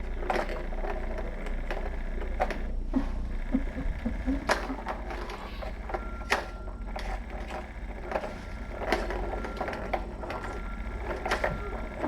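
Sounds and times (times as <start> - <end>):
kittens playing clicks and knocks: 0.0 - 12.0
steady low hum: 0.0 - 12.0.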